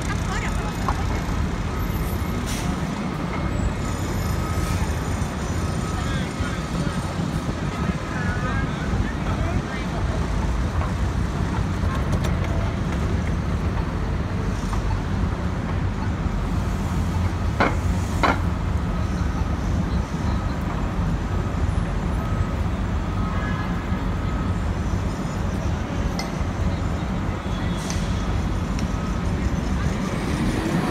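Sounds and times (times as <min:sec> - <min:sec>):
murmur of passers-by: 0:00.0 - 0:30.9
traffic rumble: 0:00.0 - 0:30.9.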